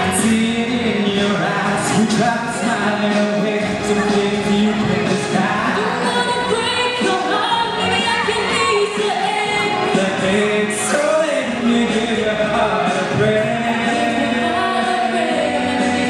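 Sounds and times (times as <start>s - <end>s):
woman and man singing pop duet: 0.0s - 16.0s.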